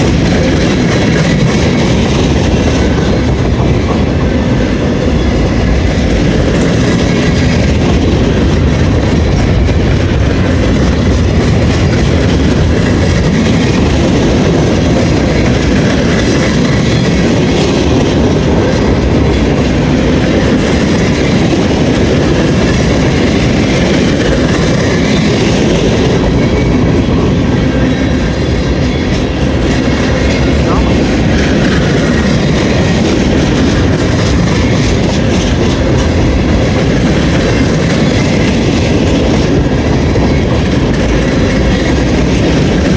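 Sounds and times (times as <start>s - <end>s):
clickety-clack of rail joints: 0.0s - 42.9s
train wheels rolling on rail: 0.0s - 42.9s.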